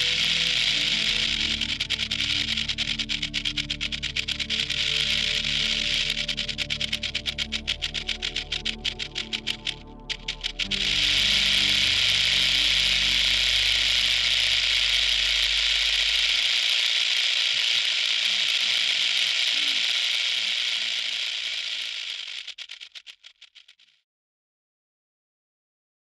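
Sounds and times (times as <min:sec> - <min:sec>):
rattlesnake tail rattle buzzing: 0:00.0 - 0:24.0.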